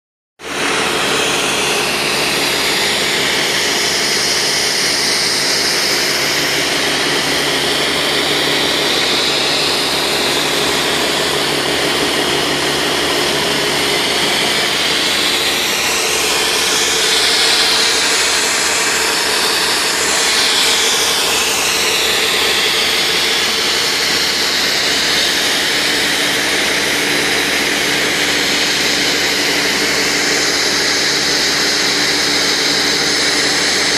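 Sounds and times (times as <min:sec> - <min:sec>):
engine and pump drone: 0:00.4 - 0:33.9
foam jet hissing: 0:00.4 - 0:33.9.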